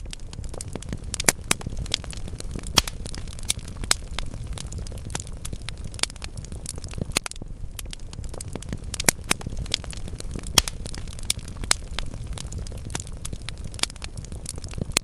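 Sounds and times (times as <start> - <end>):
logs crackling and popping: 0.0 - 15.0
low noise of flames: 0.0 - 15.0.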